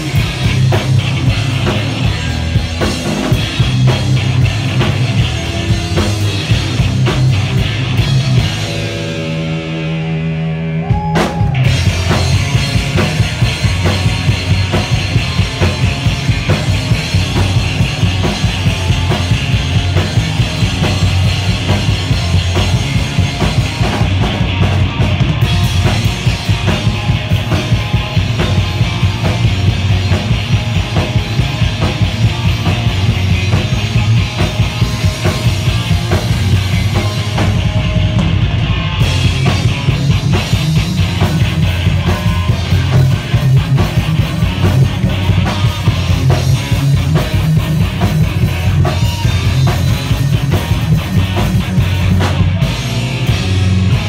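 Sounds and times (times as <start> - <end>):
fast rock music: 0.0 - 54.0.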